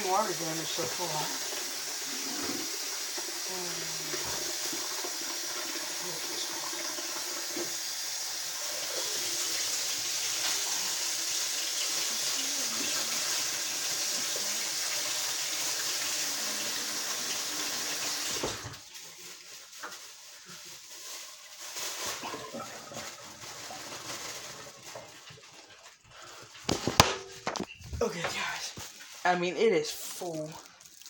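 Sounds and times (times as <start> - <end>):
faucet running into plastic bag: 0.0 - 31.0.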